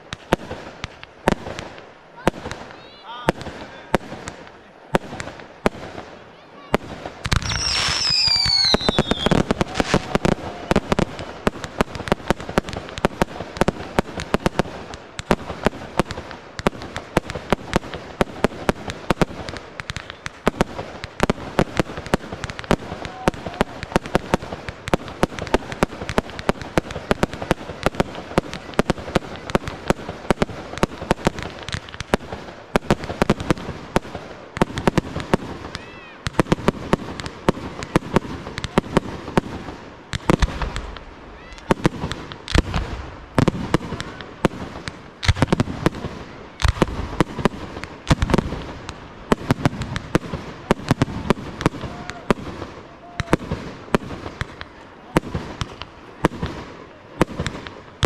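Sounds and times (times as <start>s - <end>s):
deep firework booms: 0.0s - 58.0s
fireworks crackling: 0.0s - 58.0s.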